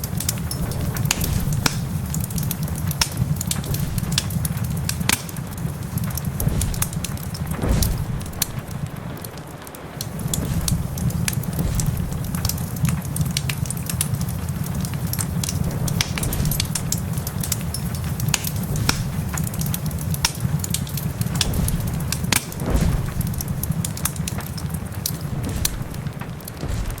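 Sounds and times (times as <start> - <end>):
low rumble: 0.0 - 9.4, 10.1 - 27.0
rain hiss: 0.0 - 27.0
wood fire crackling: 0.0 - 27.0.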